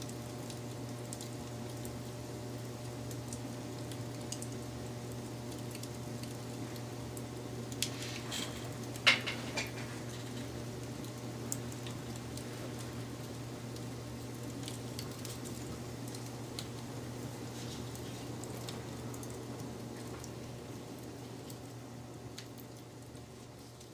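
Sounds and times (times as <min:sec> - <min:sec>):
fire popping and snapping: 0:00.0 - 0:23.9
low fire rumble: 0:00.0 - 0:23.9
wood fire crackling: 0:00.0 - 0:23.9.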